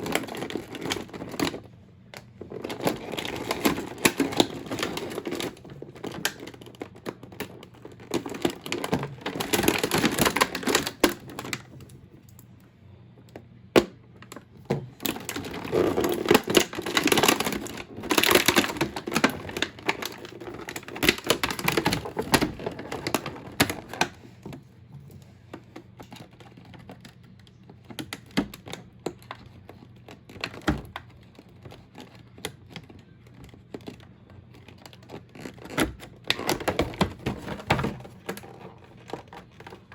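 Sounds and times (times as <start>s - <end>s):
plastic packaging clicks and rustles: 0.0s - 12.6s, 13.4s - 39.9s.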